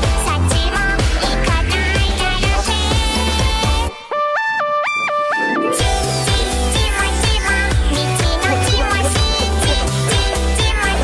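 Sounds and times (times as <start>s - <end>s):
electronic beat with heavy bass: 0.0s - 3.9s, 4.6s - 11.0s.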